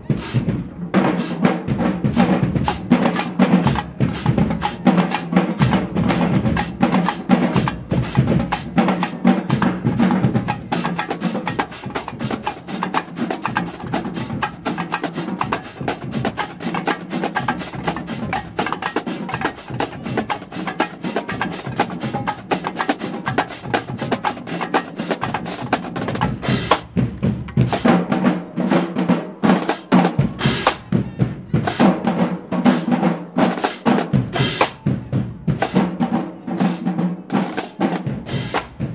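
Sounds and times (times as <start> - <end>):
marching snare drums: 0.0 - 38.9.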